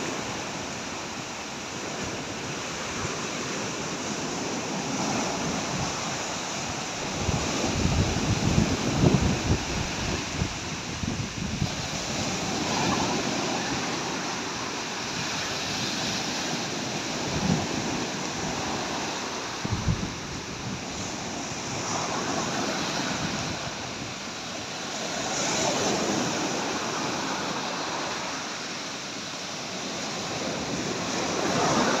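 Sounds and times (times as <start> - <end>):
surf breaking on a beach: 0.0 - 32.0
wind buffeting microphone: 1.8 - 28.2.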